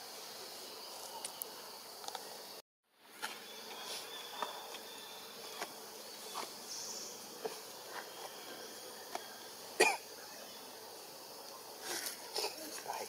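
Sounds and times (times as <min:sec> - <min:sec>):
insects buzzing and chirping: 0:00.0 - 0:13.0.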